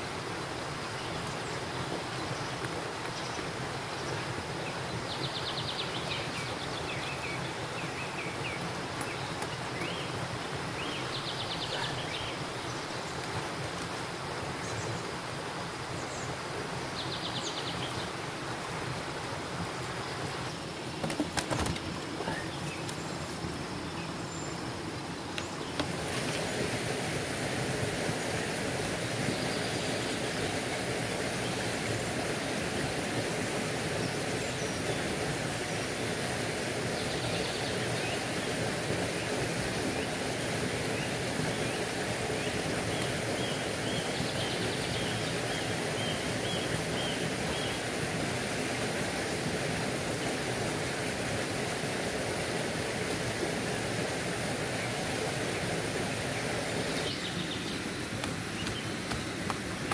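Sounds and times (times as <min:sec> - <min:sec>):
creek running over rocks: 0:00.0 - 0:59.9.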